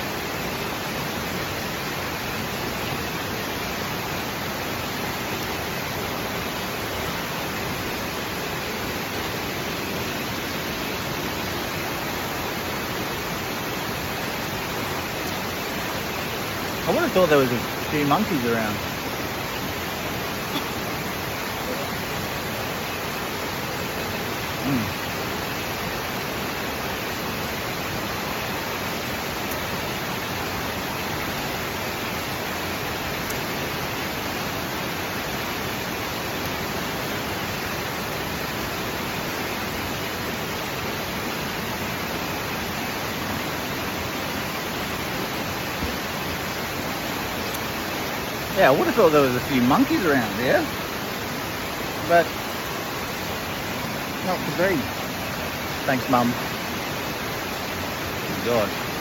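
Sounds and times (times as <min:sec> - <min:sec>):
waterfall roar: 0:00.0 - 0:59.0.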